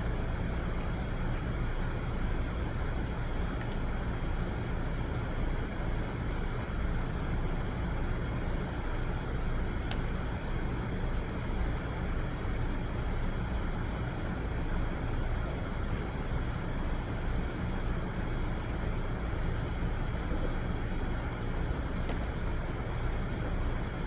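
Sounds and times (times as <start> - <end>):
low background rumble and hiss: 0.0 - 24.0.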